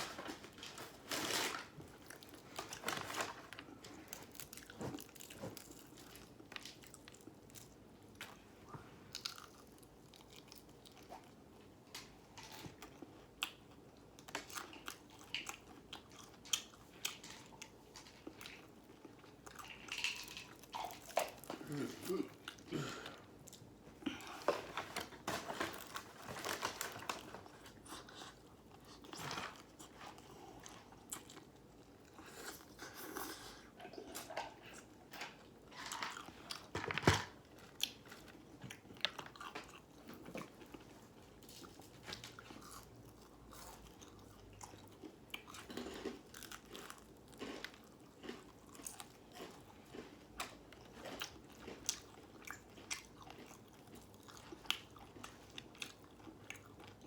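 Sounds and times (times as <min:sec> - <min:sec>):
chewing crispy fried chicken: 0:01.7 - 0:36.7, 0:37.3 - 0:57.0.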